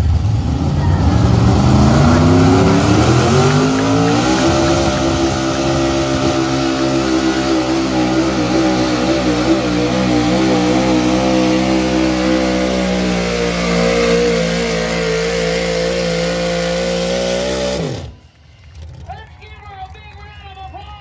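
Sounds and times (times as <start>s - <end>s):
truck engine at high revs: 0.0s - 19.1s.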